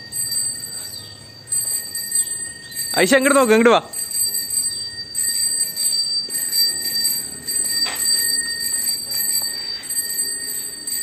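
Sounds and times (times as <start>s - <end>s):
bicycle freewheel ticking: 0.0s - 11.0s.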